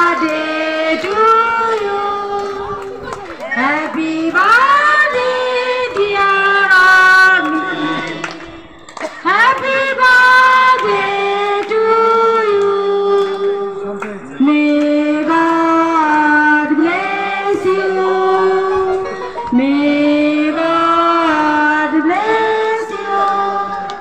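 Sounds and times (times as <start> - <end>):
children and women singing: 0.0 - 13.8, 14.4 - 24.0.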